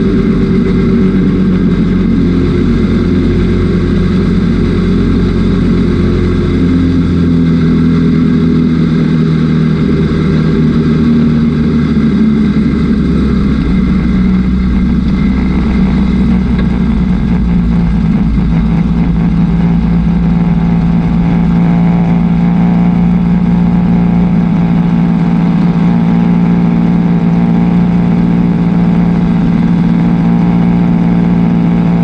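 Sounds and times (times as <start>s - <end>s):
race car engine droning: 0.0s - 32.0s.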